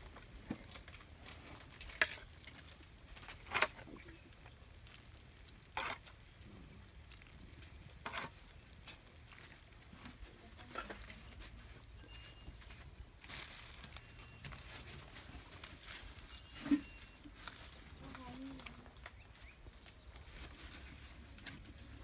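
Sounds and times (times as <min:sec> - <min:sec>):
low steady background noise: 0:00.0 - 0:22.0.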